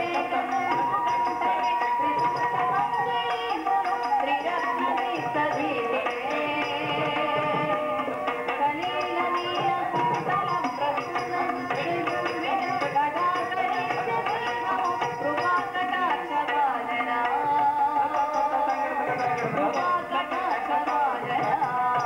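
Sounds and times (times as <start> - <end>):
hand drum rhythm: 0.0 - 22.0.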